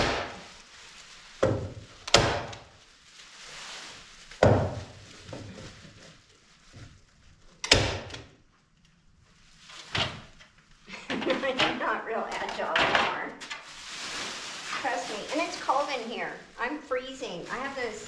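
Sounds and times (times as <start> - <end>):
plastic sheeting crinkling: 0.0 - 18.0.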